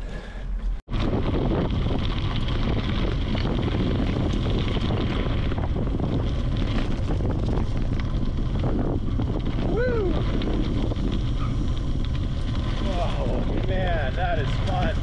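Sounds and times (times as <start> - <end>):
bike rattles and crackles: 0.0 - 15.0
wind buffeting microphone: 0.8 - 15.0
tyres rolling over gravel: 0.9 - 15.0.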